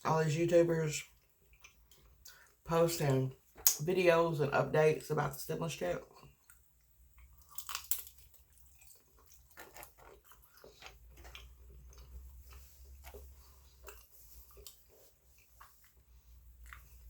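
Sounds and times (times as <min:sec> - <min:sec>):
person chewing food: 0:01.0 - 0:03.8, 0:06.0 - 0:17.0.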